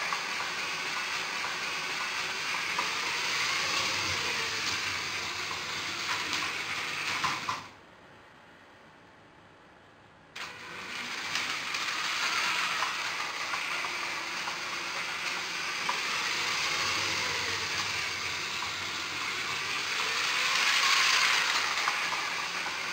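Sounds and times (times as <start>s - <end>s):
toy train motor whirring rattle: 0.0s - 7.7s, 10.4s - 22.9s.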